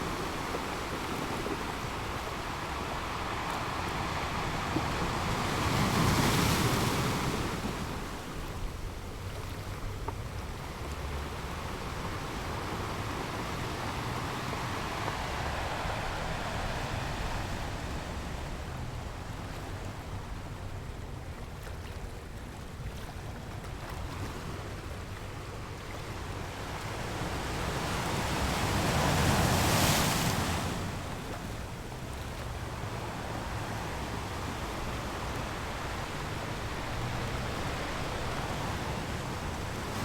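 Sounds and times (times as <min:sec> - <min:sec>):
sea waves breaking on beach: 0:00.0 - 0:40.0.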